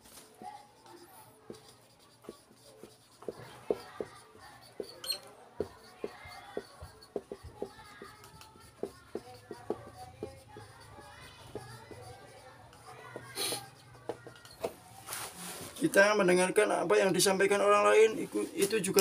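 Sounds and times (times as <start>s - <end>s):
marker writing on whiteboard: 0.0s - 16.2s.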